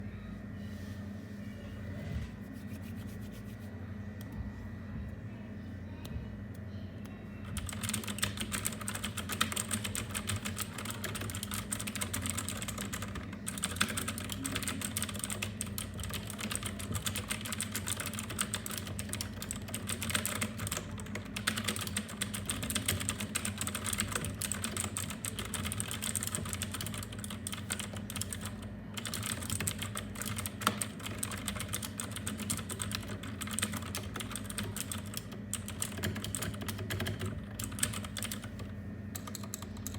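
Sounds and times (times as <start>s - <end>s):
mechanical keyboard typing: 7.4s - 39.9s.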